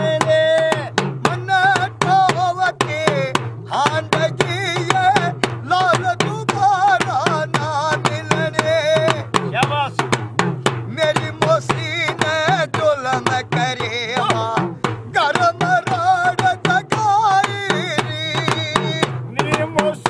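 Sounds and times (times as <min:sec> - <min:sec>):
men singing devotional song: 0:00.0 - 0:20.0
small hourglass drums beating: 0:00.0 - 0:20.0.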